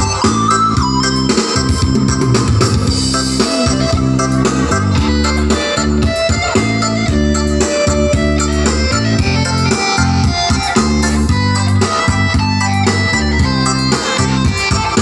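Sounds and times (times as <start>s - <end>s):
bass line: 0.0s - 15.0s.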